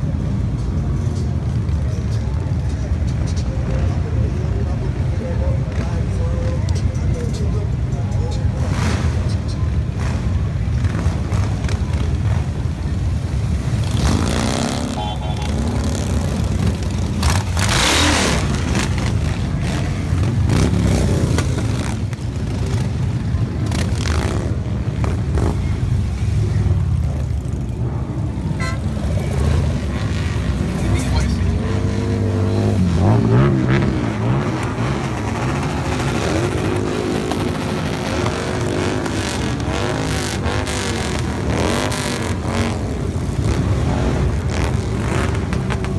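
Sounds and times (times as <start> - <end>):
motorcycle engines rumbling: 0.0 - 45.9
motorcycle passing close: 8.5 - 45.9.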